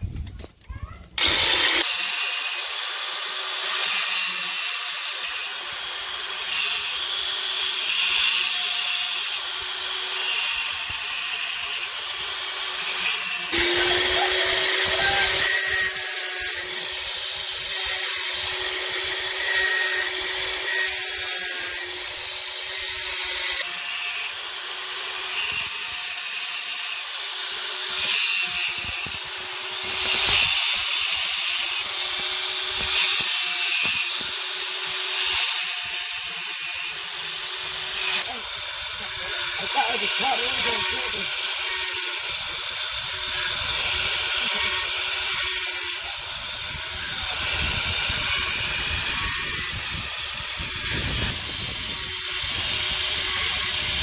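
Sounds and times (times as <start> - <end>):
power tool grinding metal: 1.2 - 54.0.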